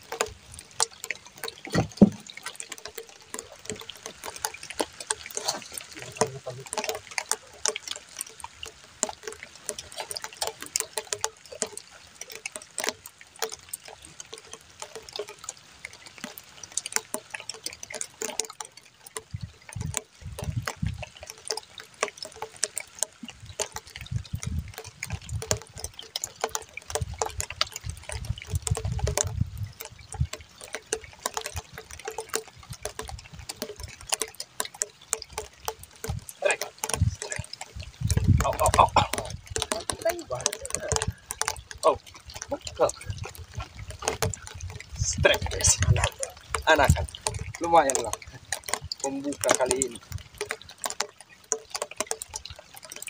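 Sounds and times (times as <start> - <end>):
sharp clicks and knocks: 0.0 - 53.0
water lapping and splashing: 0.0 - 53.0.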